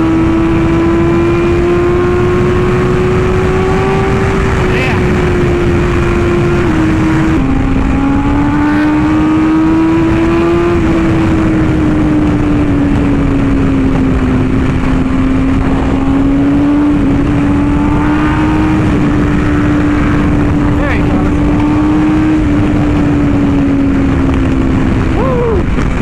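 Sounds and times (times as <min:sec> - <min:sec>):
motorcycle engine running: 0:00.0 - 0:26.0
wind rushing on microphone: 0:00.0 - 0:26.0.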